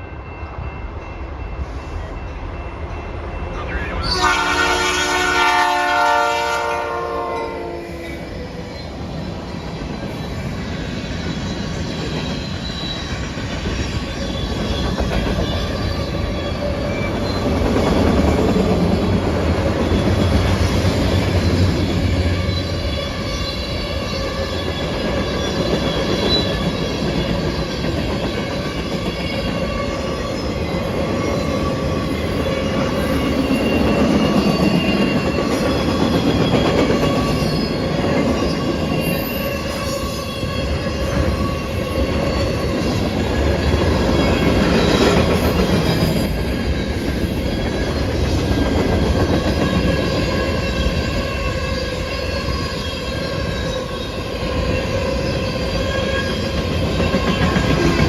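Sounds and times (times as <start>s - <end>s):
rumble of train cars: 0.0s - 58.0s
train wheels squealing on rail: 0.0s - 58.0s.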